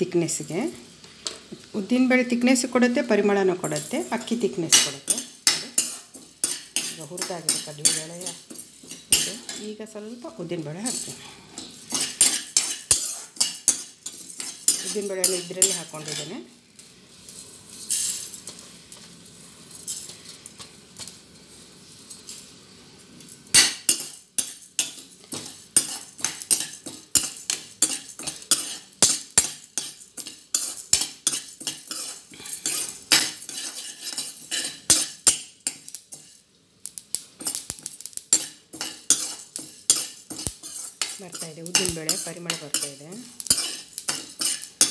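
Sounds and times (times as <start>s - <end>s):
metal spoon scraping pan: 2.8s - 21.1s, 23.5s - 36.4s, 37.1s - 44.9s.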